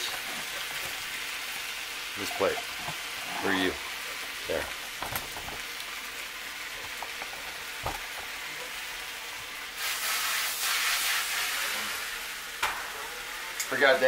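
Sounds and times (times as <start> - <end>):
fried rice sizzling in a wok: 0.0 - 14.0.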